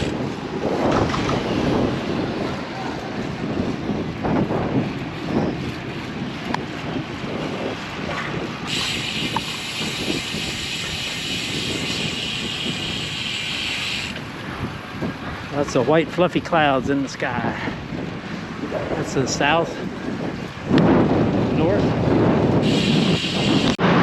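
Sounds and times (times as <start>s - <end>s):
bicycle road noise: 0.0s - 24.0s
wind rushing over microphone: 0.0s - 24.0s.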